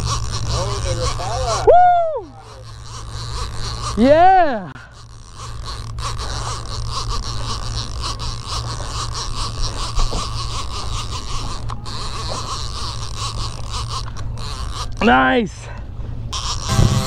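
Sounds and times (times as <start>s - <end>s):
boat engine humming: 0.0s - 17.0s
fishing reel whirring and ticking: 0.0s - 17.0s.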